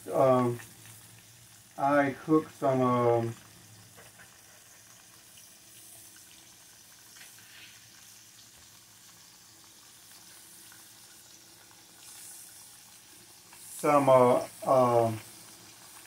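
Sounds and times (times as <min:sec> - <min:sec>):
steak sizzling in oil: 0:00.0 - 0:16.0.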